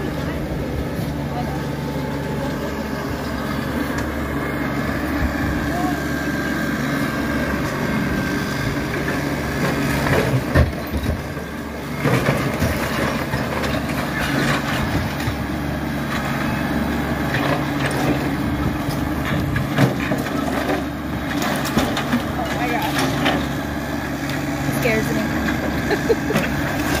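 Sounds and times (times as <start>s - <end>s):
tractor engine under load: 0.0s - 27.0s.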